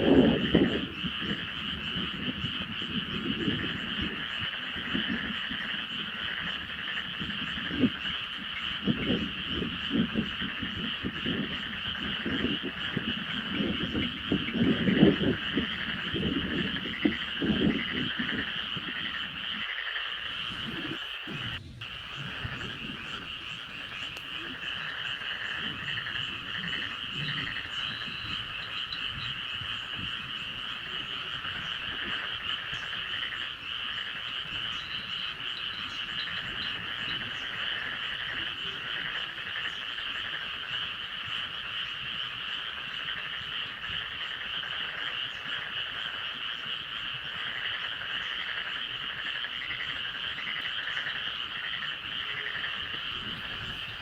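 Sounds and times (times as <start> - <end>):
frogs croaking in chorus: 0.0 - 54.0.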